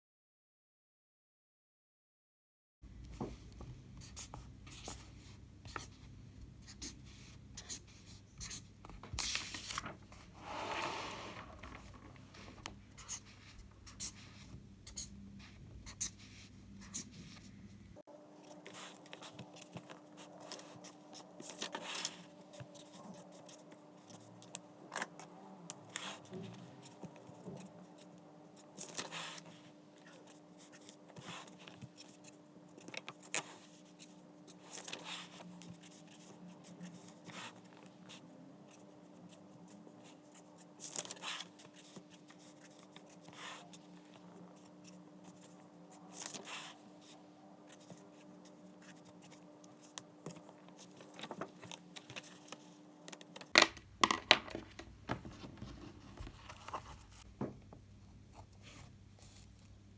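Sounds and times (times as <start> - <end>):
faint room hum: 2.8 - 59.9.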